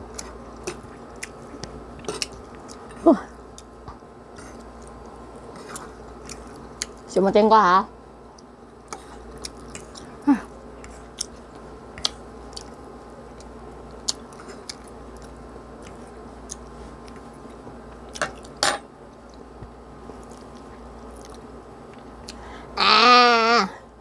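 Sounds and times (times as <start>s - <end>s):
person chewing noodles: 0.0s - 7.0s, 8.3s - 22.5s.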